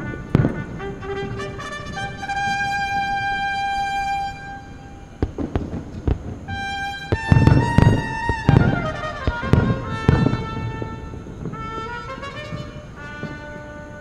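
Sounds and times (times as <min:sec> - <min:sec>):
orchestral string music: 0:00.0 - 0:05.0, 0:06.5 - 0:14.0
fireworks bangs: 0:00.0 - 0:14.0.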